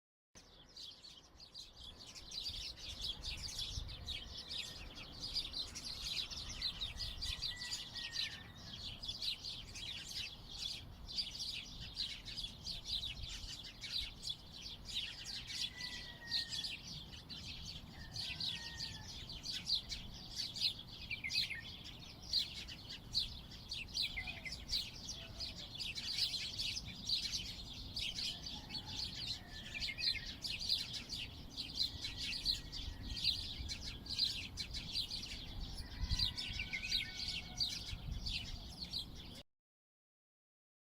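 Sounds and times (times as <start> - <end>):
chorus of small birds chirping: 0.4 - 39.4.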